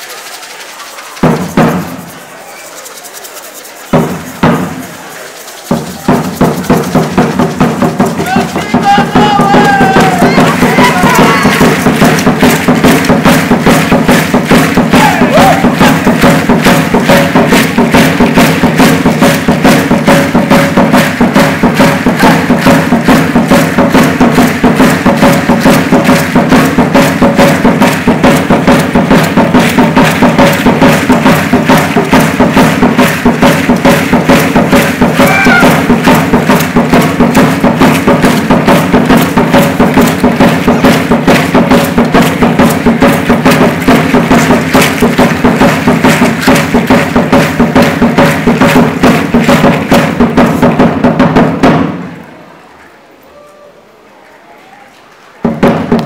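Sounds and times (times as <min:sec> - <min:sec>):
seed-pod ankle rattles shaking: 0:00.0 - 0:51.1
wooden skin drum beating: 0:00.1 - 0:02.4, 0:03.6 - 0:52.1, 0:55.4 - 0:56.0.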